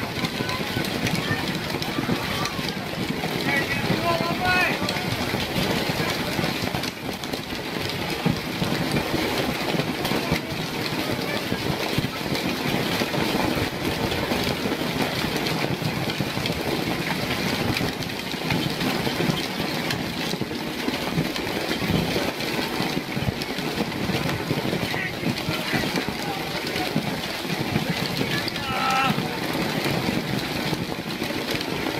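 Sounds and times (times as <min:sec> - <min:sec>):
hail falling: 0:00.0 - 0:31.9.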